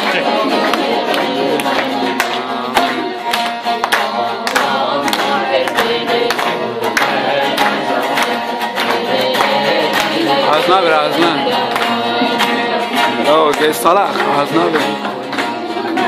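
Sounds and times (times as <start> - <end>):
audience clapping in time: 0.0 - 16.0
long-necked lute folk tune: 0.0 - 16.0.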